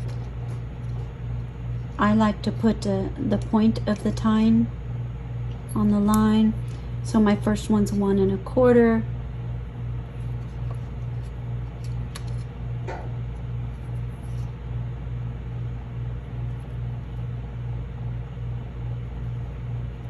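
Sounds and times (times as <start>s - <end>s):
low pulsing hum: 0.0s - 20.0s.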